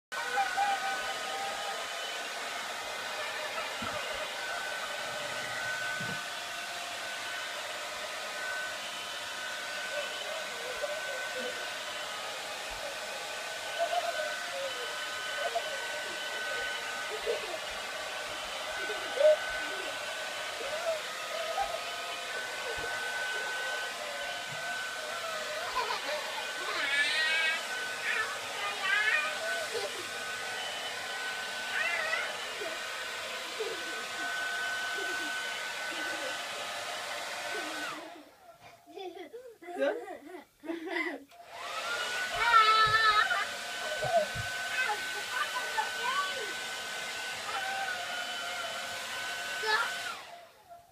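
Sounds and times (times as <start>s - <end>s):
hair dryer running: 0.1s - 39.1s, 40.8s - 50.9s.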